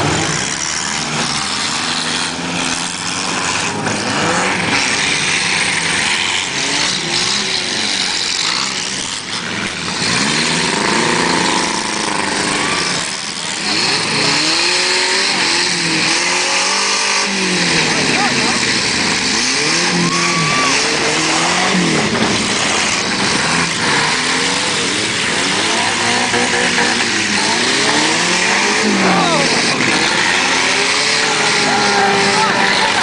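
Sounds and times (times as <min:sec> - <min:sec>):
car engines revving: 0:00.0 - 0:33.0
crowd noise: 0:00.0 - 0:33.0.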